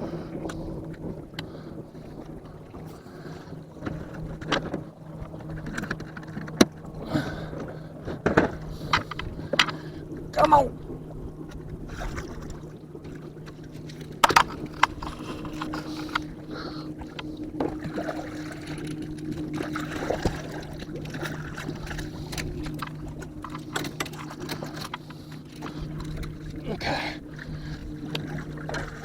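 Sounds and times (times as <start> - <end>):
boat motor humming: 0.0 - 29.0.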